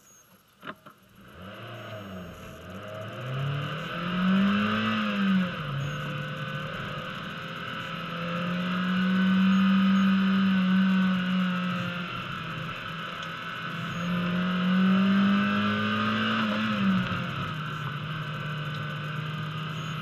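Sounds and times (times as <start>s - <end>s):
car engine revving: 1.0s - 20.0s.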